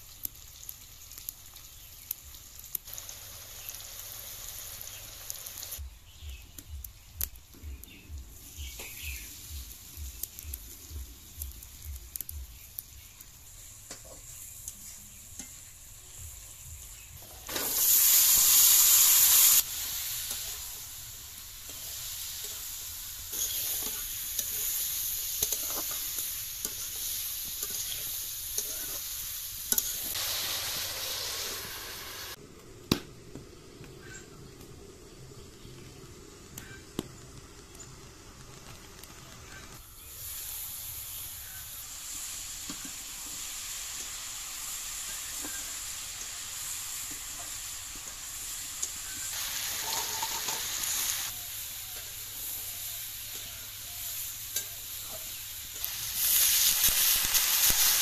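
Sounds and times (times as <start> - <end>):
burst of sizzling: 0.0 - 6.4, 7.1 - 32.4, 34.1 - 58.0
food sizzling in hot oil: 0.0 - 32.4, 34.0 - 58.0.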